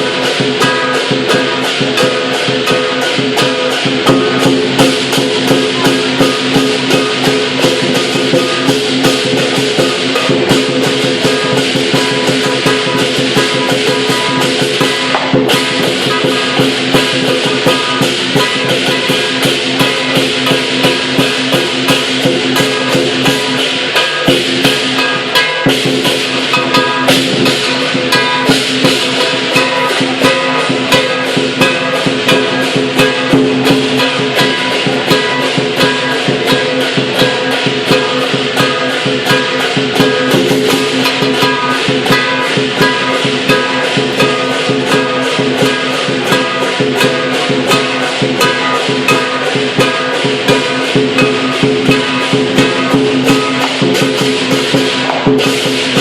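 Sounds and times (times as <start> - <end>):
drum cymbals and gong beat: 0.0 - 56.0.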